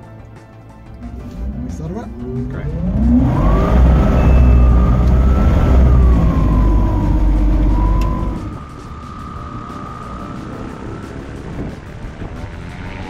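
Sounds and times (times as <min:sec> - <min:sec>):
heavy low rumble: 0:00.9 - 0:12.4
electric motor whine: 0:01.0 - 0:11.8.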